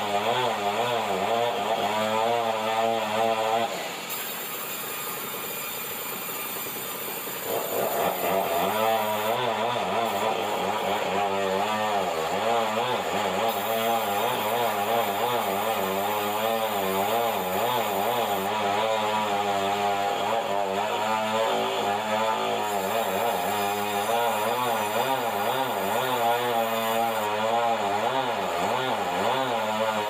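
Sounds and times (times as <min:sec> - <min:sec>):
band saw cutting timber: 0:00.0 - 0:30.0.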